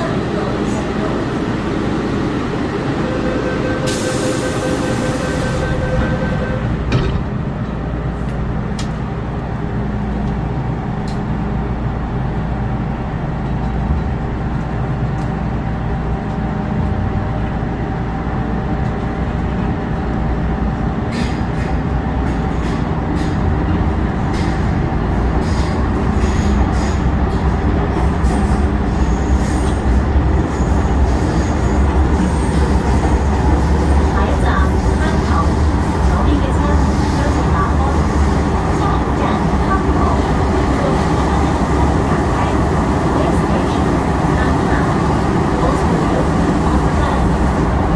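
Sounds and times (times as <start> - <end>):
train wheels rumbling: 0.0 - 47.9.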